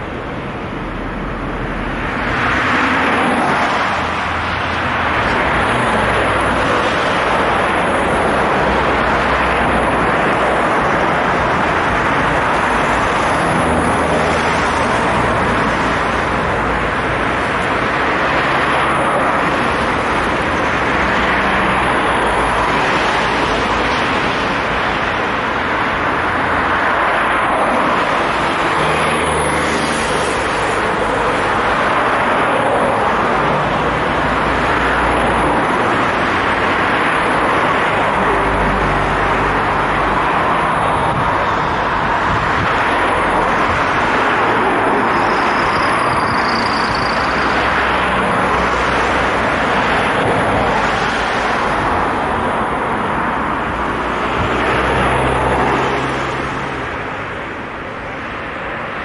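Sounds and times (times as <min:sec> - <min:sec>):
cars and vans passing: 0:00.0 - 0:59.0.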